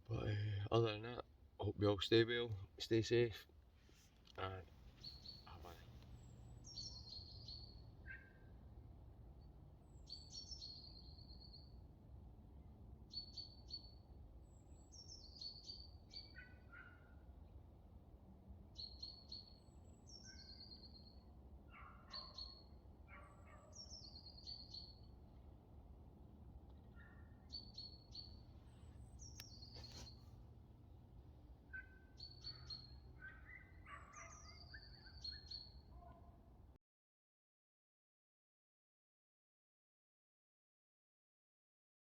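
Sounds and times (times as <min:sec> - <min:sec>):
faint birdsong: 0:00.0 - 0:36.8.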